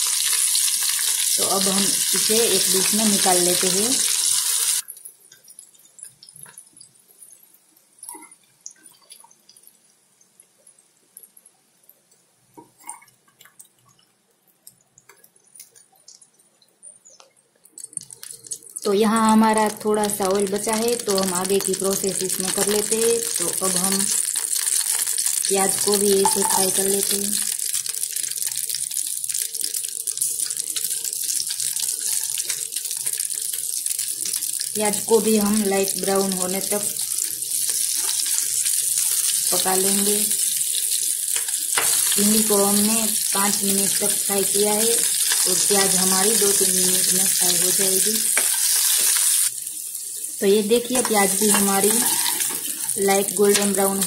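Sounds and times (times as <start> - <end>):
food sizzling in hot oil: 0.0 - 10.0, 17.0 - 54.0.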